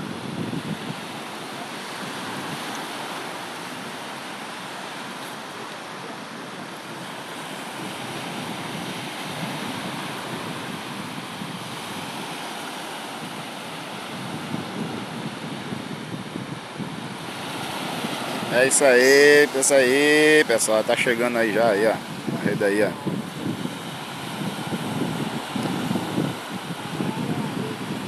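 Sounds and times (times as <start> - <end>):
waves washing onto beach: 0.0 - 28.0
wind buffeting microphone: 0.0 - 28.0.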